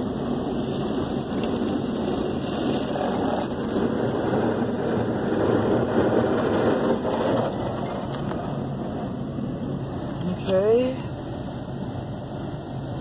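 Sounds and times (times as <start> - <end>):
car wash water spraying: 0.0 - 13.0.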